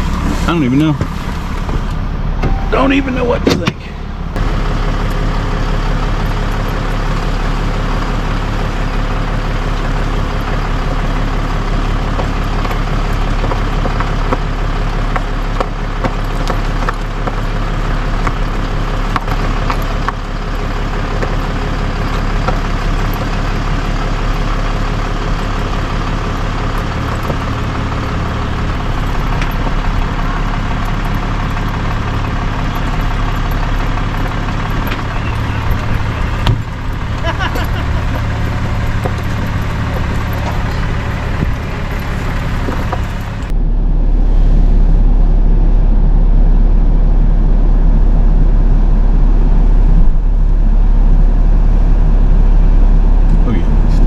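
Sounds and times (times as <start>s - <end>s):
heavy truck engine idling: 0.0s - 54.0s.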